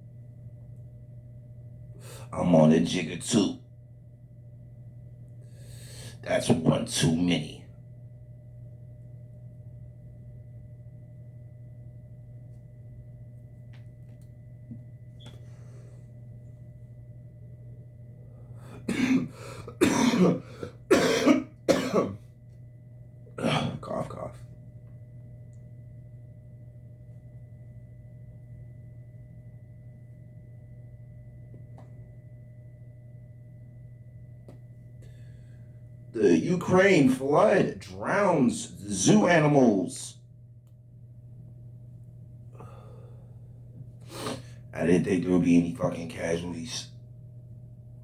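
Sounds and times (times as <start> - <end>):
faint high-pitched whine: 0.0 - 48.0
low electrical hum: 0.0 - 48.0.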